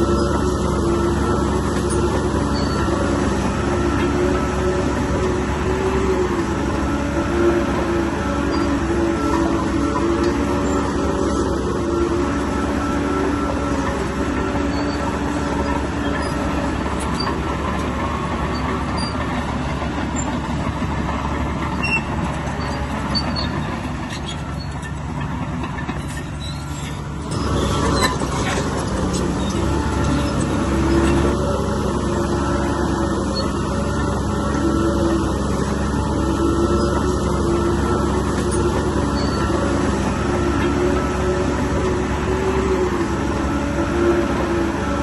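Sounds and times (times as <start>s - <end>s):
diesel engine droning: 0.0s - 45.0s.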